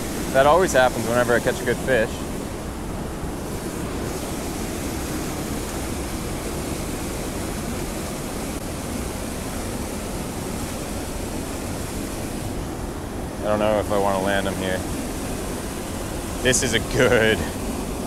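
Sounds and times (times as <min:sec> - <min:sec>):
waterfall rushing into pool: 0:00.0 - 0:18.0.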